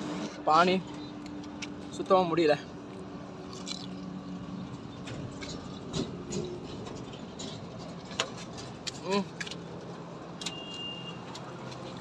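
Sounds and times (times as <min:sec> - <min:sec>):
faint vehicle engine hum: 0:00.0 - 0:12.0.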